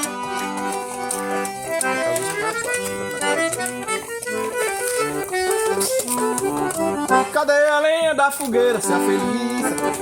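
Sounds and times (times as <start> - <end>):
accordion melody with chords: 0.0 - 10.0.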